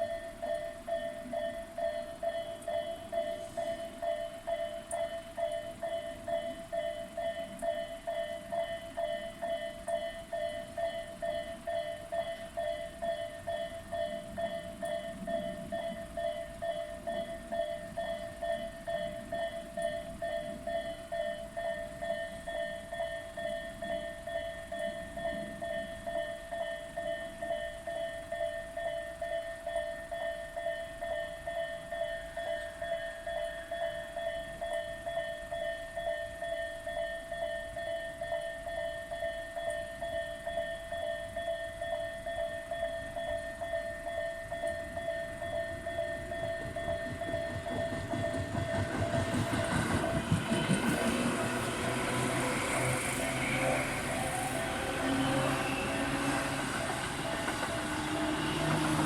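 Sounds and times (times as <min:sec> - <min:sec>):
electronic crossing bell clanging: 0:00.0 - 0:59.0.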